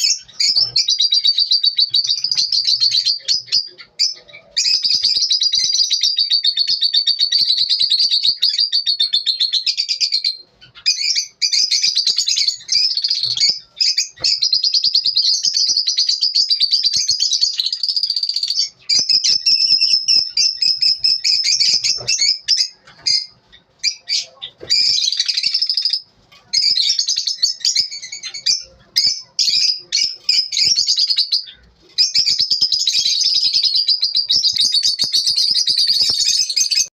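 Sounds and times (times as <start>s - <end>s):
lovebirds twittering: 0.0s - 36.9s.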